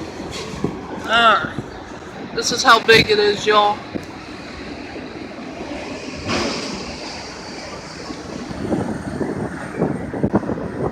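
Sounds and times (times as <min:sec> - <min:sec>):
freight train rolling past: 0:00.0 - 0:10.9
wind on microphone: 0:00.0 - 0:10.9.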